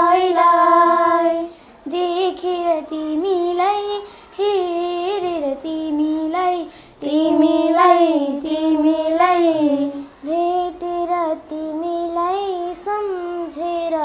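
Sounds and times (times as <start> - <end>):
girls singing: 0.0 - 14.0.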